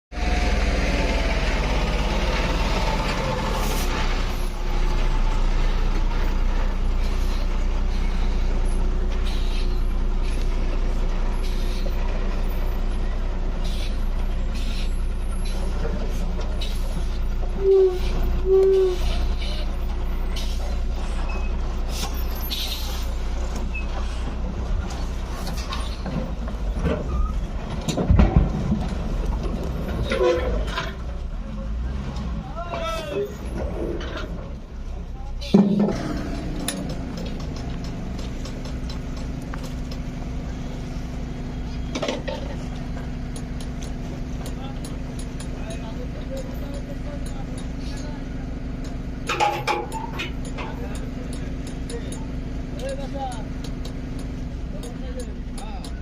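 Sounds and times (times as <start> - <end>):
truck diesel engine running: 0.1 - 56.0.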